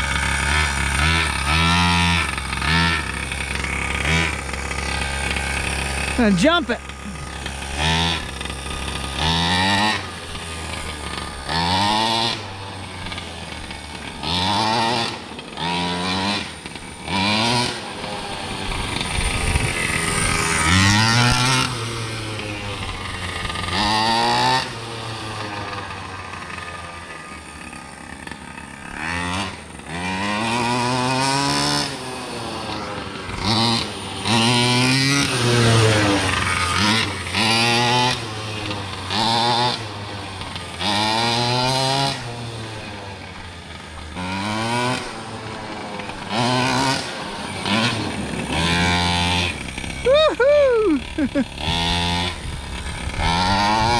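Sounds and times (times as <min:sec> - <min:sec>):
two-stroke engine revving: 0:00.0 - 0:53.9.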